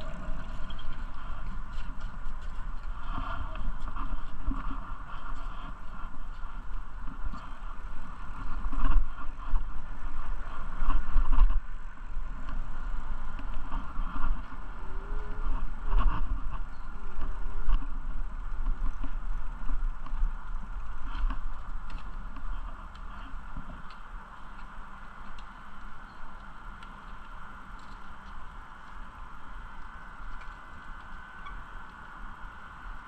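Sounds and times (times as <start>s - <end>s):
bicycle riding rumble and rattles: 0.0s - 33.0s.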